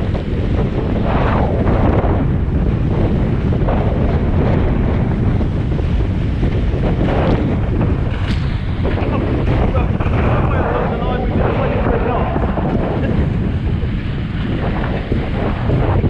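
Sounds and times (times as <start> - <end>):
rushing water: 0.0 - 16.0
wind buffeting microphone: 0.0 - 16.0.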